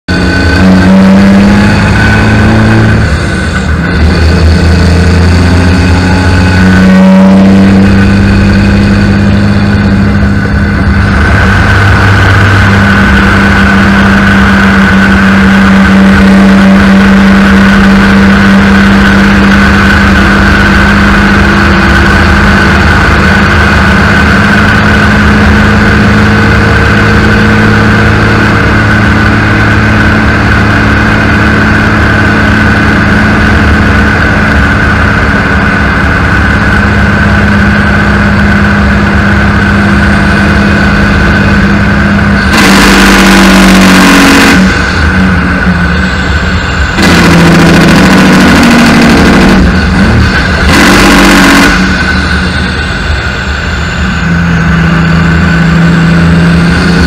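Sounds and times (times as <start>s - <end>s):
road and tyre noise: 0.0s - 57.0s
truck diesel engine running: 0.0s - 57.0s.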